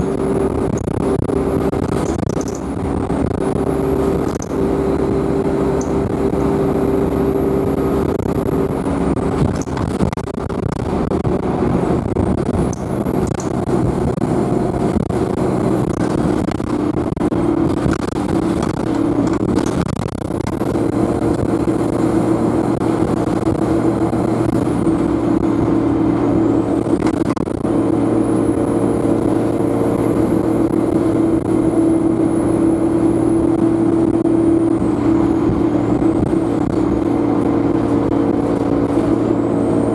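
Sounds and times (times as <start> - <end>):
bus diesel engine drone: 0.0 - 39.9
high turbocharger whine: 0.0 - 39.9.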